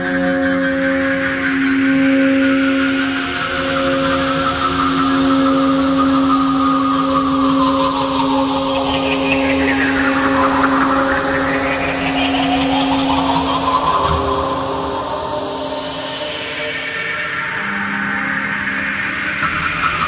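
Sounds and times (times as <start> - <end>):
low drone: 0.0 - 20.0.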